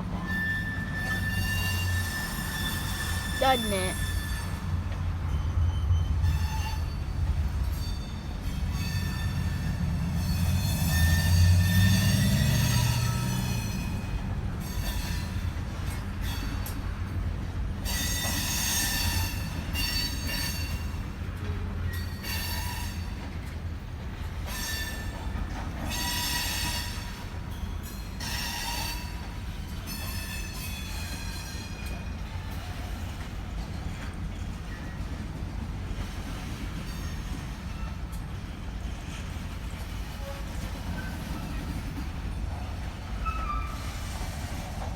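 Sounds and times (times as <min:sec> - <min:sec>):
freight train cars rumbling: 0:00.0 - 0:44.9
steel wheels squealing on rails: 0:00.0 - 0:44.9.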